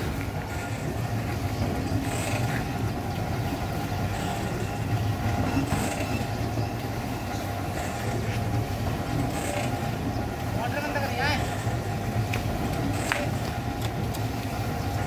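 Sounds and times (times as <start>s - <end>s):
rattle of turning drum: 0.0s - 15.0s.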